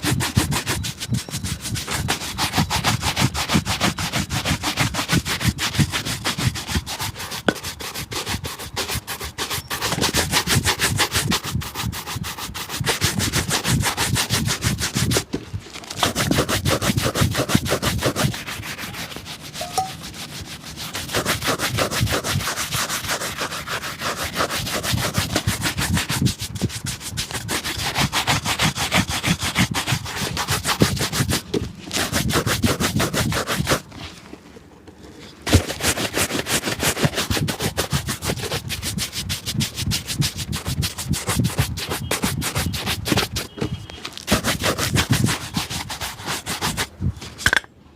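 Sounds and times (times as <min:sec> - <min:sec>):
fast rubbing strokes on a shoe: 0:00.0 - 0:34.2, 0:35.4 - 0:47.4.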